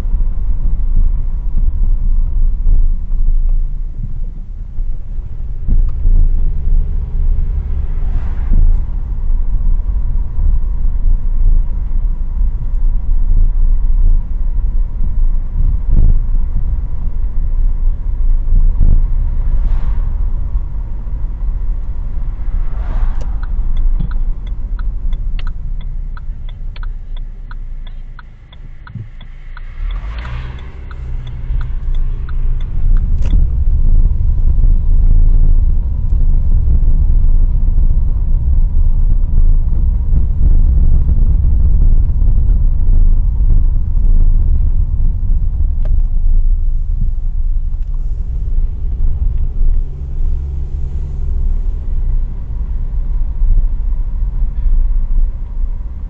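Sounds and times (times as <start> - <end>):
car engine and road rumble: 0.0 - 56.0
turn signal ticking: 0.0 - 56.0.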